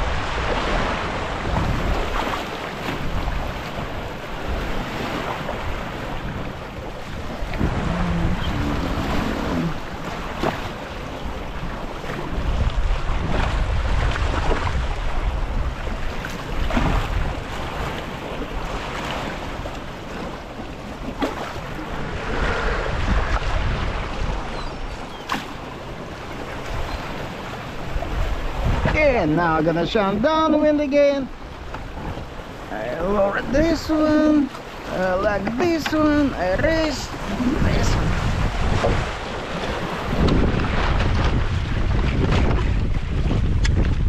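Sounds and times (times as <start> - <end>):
water splashing along hull: 0.0 - 44.0
wind buffeting microphone: 0.0 - 44.0.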